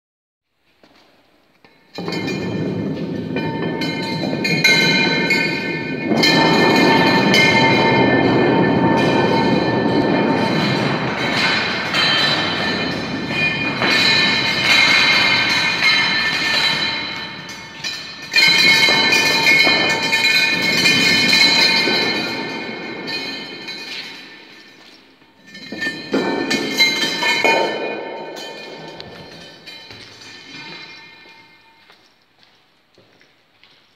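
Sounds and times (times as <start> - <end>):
metal cylinder rolling on concrete: 1.8 - 32.0.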